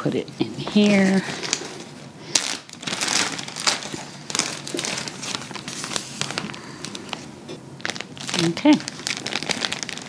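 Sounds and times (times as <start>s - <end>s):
plastic bag crinkling: 0.6s - 10.0s.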